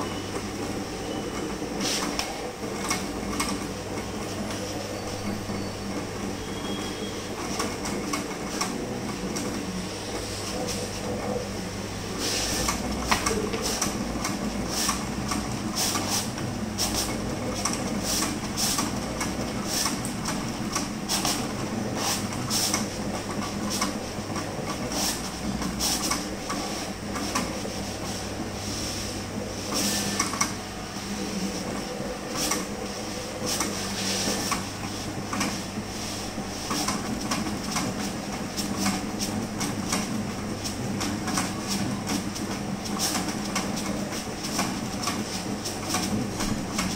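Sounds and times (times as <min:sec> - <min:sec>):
printer carriage sweeping: 0:00.0 - 0:11.4, 0:12.0 - 0:46.9
printer humming: 0:00.0 - 0:46.9.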